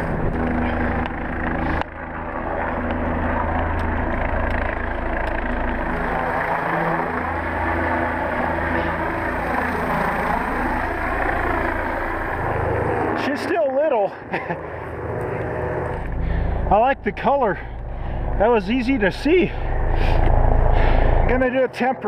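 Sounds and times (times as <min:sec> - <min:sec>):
helicopter engine and rotor hum: 0:00.0 - 0:22.0.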